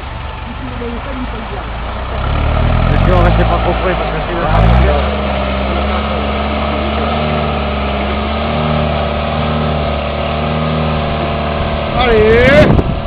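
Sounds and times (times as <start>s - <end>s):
engine running at low revs: 0.0s - 13.0s.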